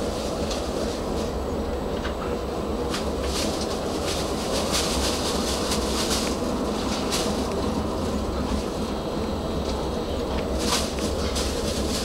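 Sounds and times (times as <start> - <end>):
tram wheels and motors rumbling: 0.0 - 12.0.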